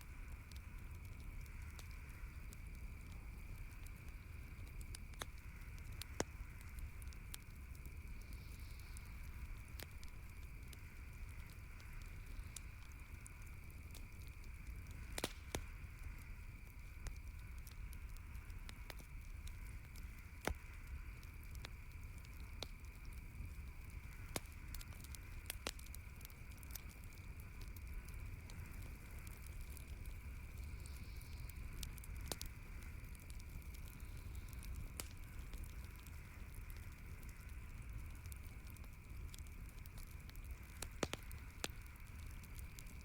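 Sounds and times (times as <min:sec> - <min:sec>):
campfire crackling: 0:00.0 - 0:43.0
fire popping: 0:00.0 - 0:43.0
low hiss: 0:00.0 - 0:43.0.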